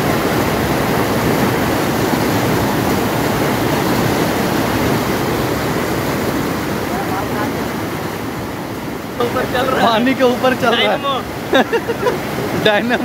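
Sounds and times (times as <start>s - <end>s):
river water rushing over boulders: 0.0s - 13.0s.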